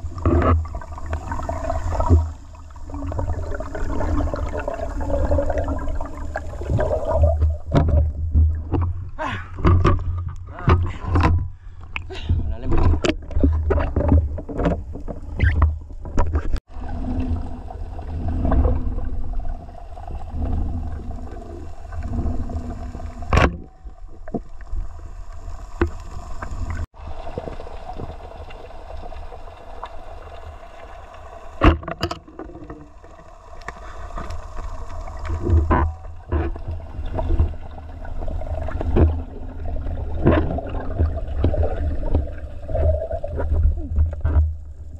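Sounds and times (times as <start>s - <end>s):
underwater rumble of moving water: 0.0s - 44.9s.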